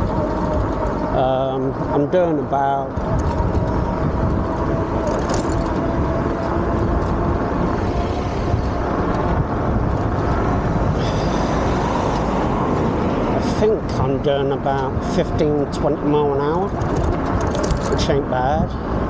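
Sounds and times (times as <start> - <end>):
bike tyre noise: 0.0 - 19.0
wind buffeting microphone: 0.0 - 19.0.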